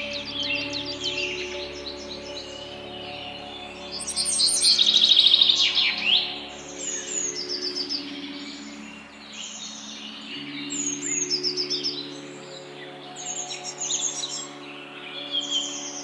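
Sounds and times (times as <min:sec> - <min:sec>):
bird trill: 0:00.0 - 0:16.0.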